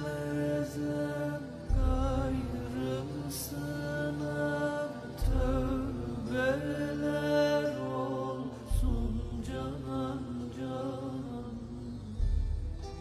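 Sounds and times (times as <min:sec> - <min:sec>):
slow background music: 0:00.0 - 0:13.0.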